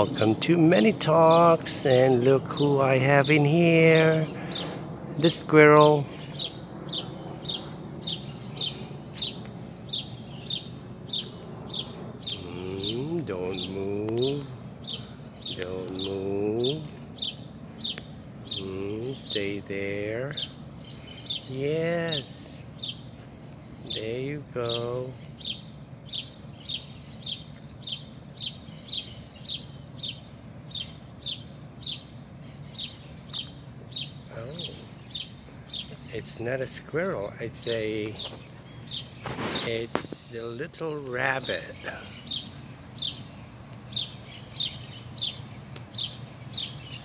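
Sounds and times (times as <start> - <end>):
bird chirping: 0.0 - 47.0
faint outdoor background noise: 0.0 - 47.0.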